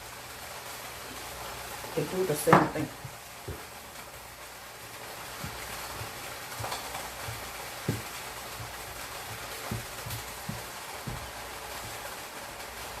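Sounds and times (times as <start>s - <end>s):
oil sizzling in a pot: 0.0s - 13.0s.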